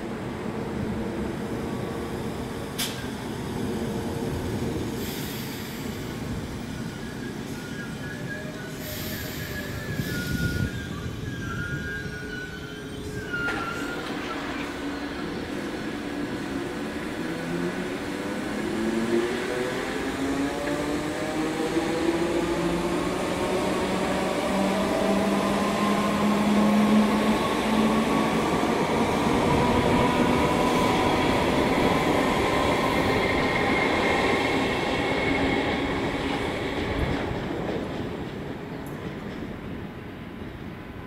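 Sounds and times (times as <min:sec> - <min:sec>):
train rumbling along track: 0:00.0 - 0:41.0.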